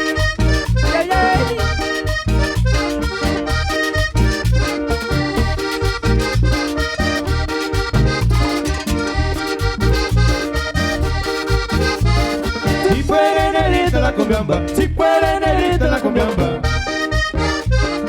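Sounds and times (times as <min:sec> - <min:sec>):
accordion melody: 0:00.0 - 0:18.0
bass and percussion beat: 0:00.0 - 0:18.0.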